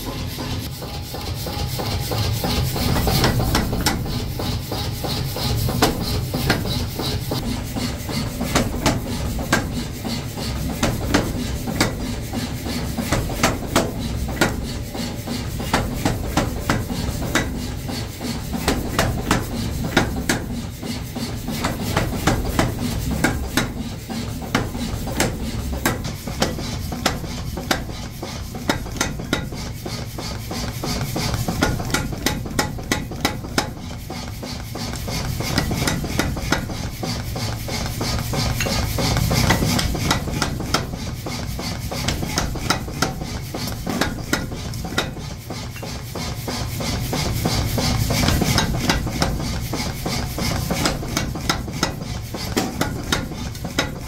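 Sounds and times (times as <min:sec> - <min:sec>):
power hammer striking hot steel: 0:00.0 - 0:54.0.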